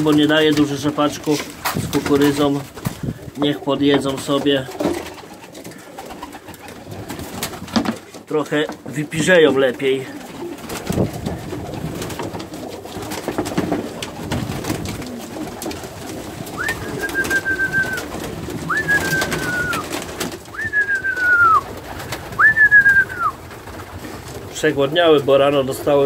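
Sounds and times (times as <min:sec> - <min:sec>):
pigeons cooing: 0:00.0 - 0:08.1, 0:09.5 - 0:26.0
pigeon wingbeats clattering: 0:00.0 - 0:26.0.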